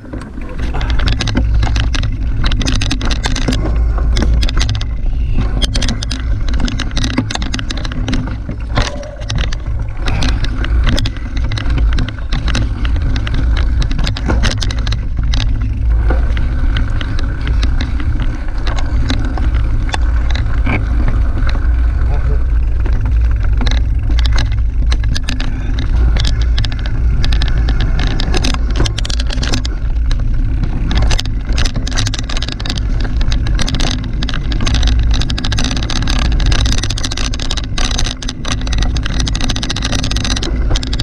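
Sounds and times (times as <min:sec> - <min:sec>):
bike clicks and rattles: 0:00.0 - 0:41.0
tyre and wind rumble: 0:00.0 - 0:41.0.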